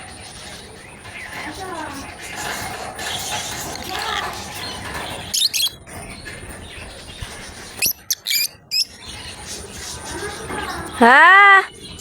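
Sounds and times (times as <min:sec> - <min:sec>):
bird chatter: 0:00.0 - 0:12.0
lovebirds chirping shrilly: 0:00.3 - 0:12.0.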